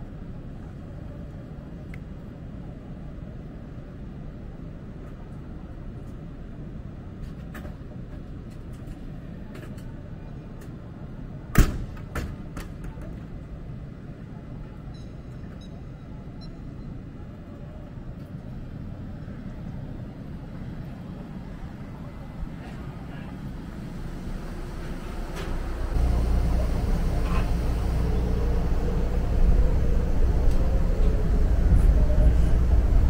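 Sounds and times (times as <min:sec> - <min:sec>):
stationary train rumbling: 0:00.0 - 0:33.0.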